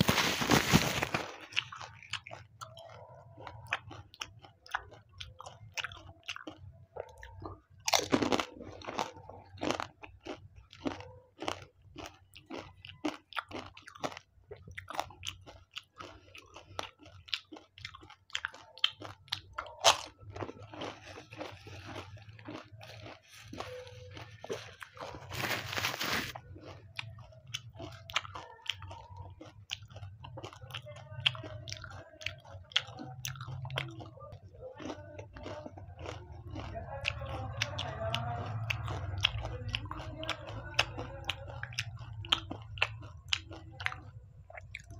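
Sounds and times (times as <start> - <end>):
crisp shells crunching in mouth: 0.0 - 6.6, 7.4 - 34.2, 34.8 - 44.9.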